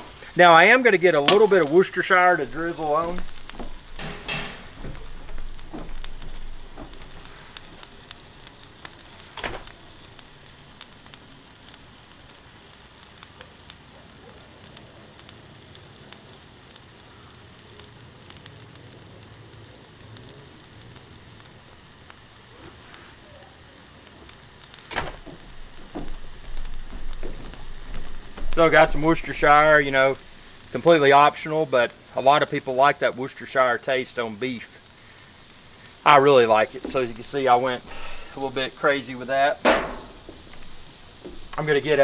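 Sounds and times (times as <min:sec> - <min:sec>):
steak sizzling on a griddle: 0:00.0 - 0:42.0.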